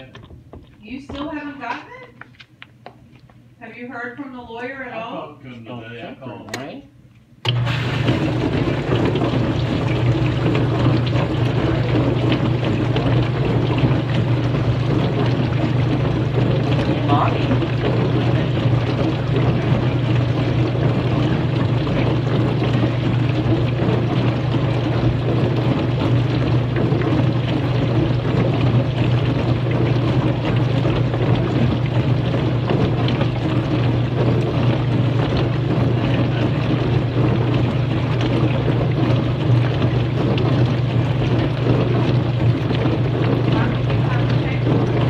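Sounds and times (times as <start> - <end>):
dishwasher running: 0.0 - 2.5, 7.4 - 45.0.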